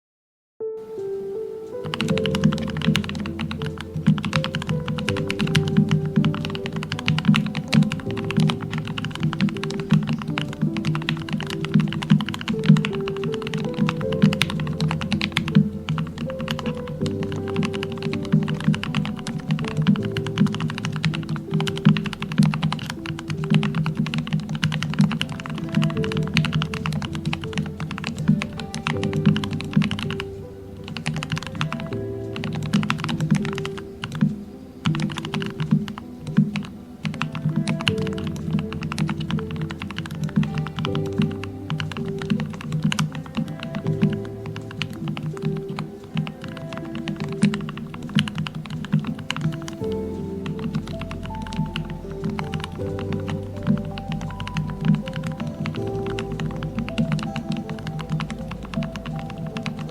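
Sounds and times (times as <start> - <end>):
soft background music: 0.6 - 59.9
mechanical keyboard typing: 1.8 - 59.9.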